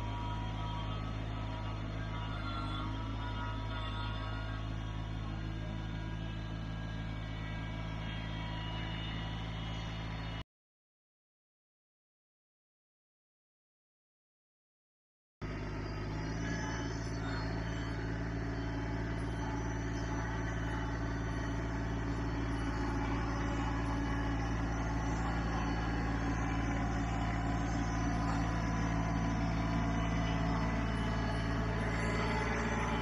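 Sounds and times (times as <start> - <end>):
tractor diesel engine running: 0.0 - 10.4, 15.4 - 33.0.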